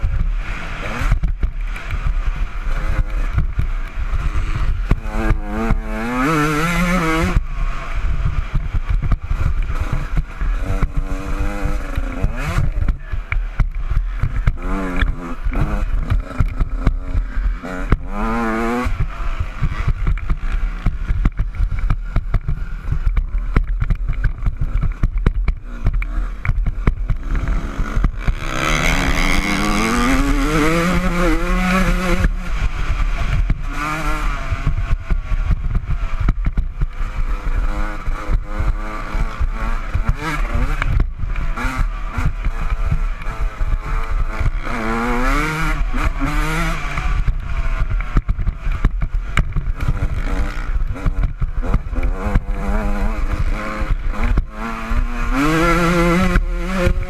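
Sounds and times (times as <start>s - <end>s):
bike rattling: 0.0s - 57.0s
low wind rumble: 0.0s - 57.0s
motocross engine revving: 0.0s - 57.0s.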